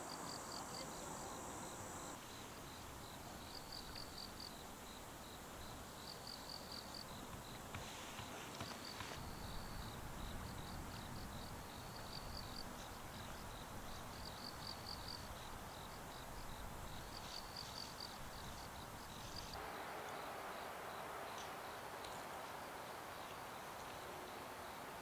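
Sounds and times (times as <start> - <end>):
crickets chirping: 0.0 - 25.0
soft hiss: 0.0 - 25.0.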